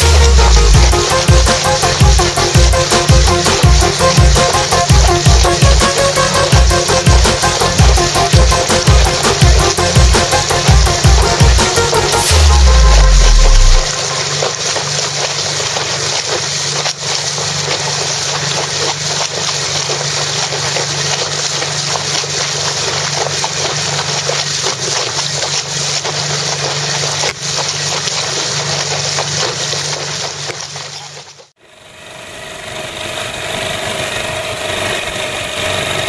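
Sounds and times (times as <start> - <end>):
rush of wind and water: 0.0 - 31.5
small outboard motor running: 0.0 - 36.0.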